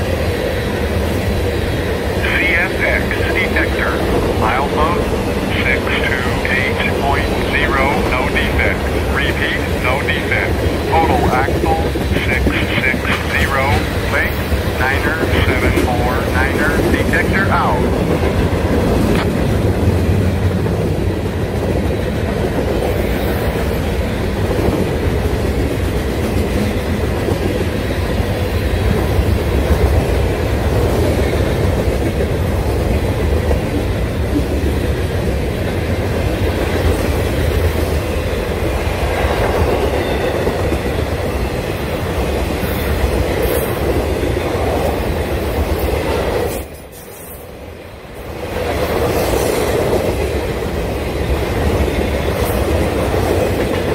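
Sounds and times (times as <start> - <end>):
freight train rumbling past: 0.0 - 53.9.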